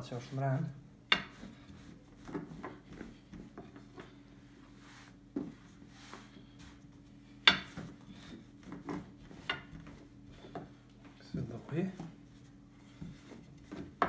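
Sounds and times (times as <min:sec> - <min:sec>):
faint steady hum: 0:00.0 - 0:14.0
rolling pin rubbing on dough: 0:00.0 - 0:14.0.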